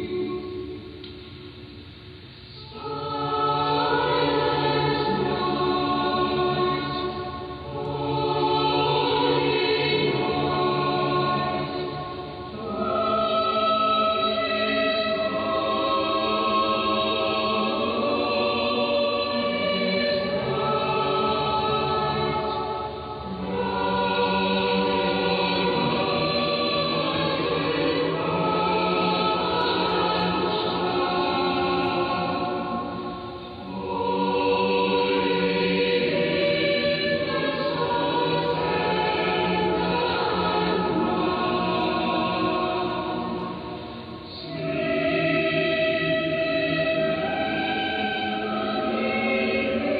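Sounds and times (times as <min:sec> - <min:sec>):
choir singing over radio: 0:00.0 - 0:01.2, 0:02.6 - 0:49.9.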